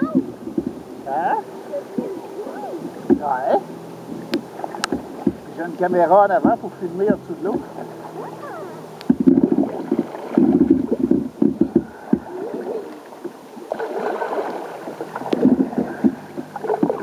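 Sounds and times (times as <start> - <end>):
water slapping: 0.0 - 17.0
water splashing and gurgling: 0.0 - 17.0.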